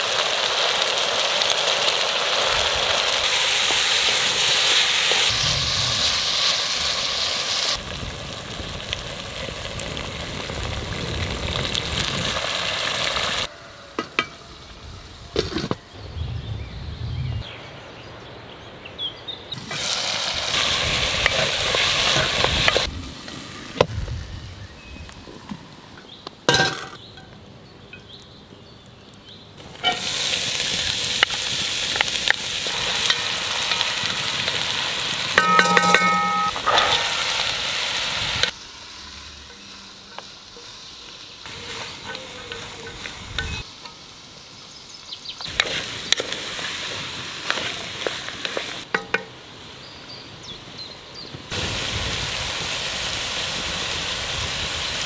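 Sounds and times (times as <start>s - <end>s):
food sizzling in oil: 0.0s - 15.7s, 19.6s - 25.1s, 29.6s - 50.2s, 51.4s - 55.0s.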